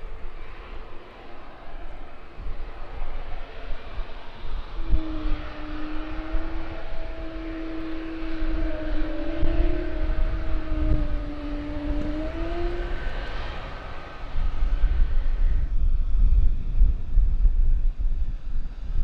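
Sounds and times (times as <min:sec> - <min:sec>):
airliner engines humming: 0:00.0 - 0:19.0
wind buffeting microphone: 0:00.0 - 0:19.0.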